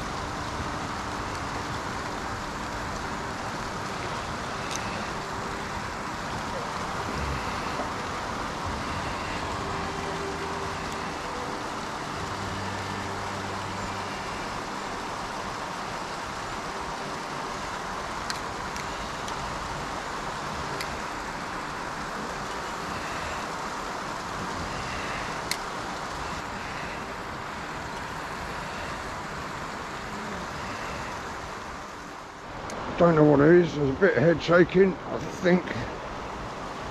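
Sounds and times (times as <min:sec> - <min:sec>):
faint low drone: 0:00.0 - 0:36.9.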